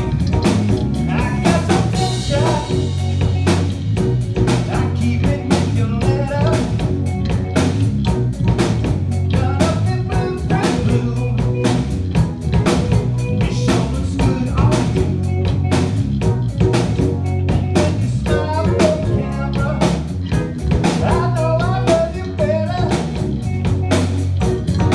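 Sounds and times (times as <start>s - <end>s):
bass guitar: 0.0s - 24.9s
drum-kit beat: 0.0s - 24.9s
electric guitar: 0.0s - 24.9s.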